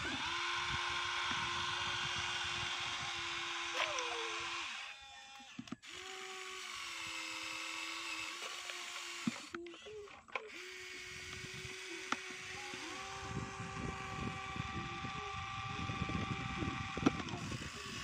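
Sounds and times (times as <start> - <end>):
toy electric motors whining: 0.0 - 18.0
gears clicking: 1.1 - 18.0.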